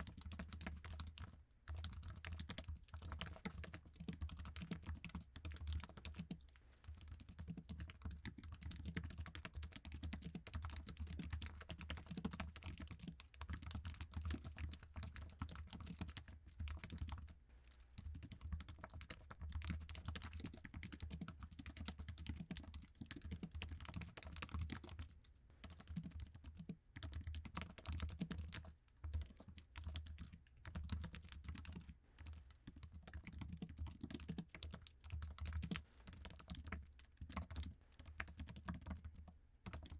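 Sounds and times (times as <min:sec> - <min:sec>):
fast keyboard typing: 0:00.0 - 0:17.4, 0:18.0 - 0:39.9.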